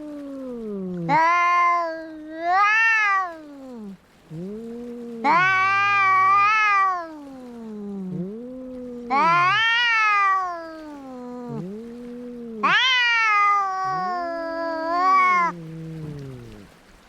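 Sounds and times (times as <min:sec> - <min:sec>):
cats yowling in a fight: 0:00.0 - 0:16.8.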